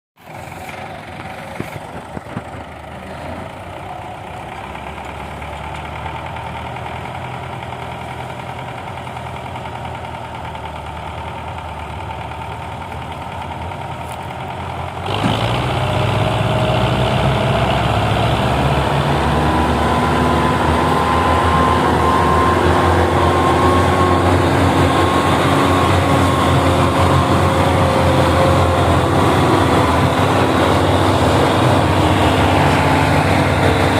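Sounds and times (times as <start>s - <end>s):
tractor diesel engine running: 0.2s - 33.9s.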